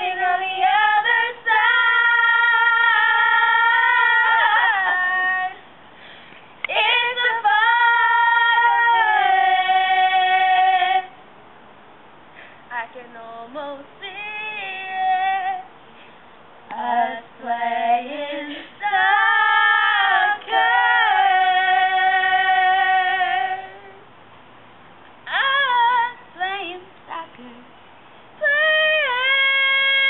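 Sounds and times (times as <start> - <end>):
girls singing a cappella: 0.0 - 5.7, 6.6 - 11.2, 12.7 - 15.8, 16.6 - 24.1, 25.2 - 27.8, 28.4 - 30.0.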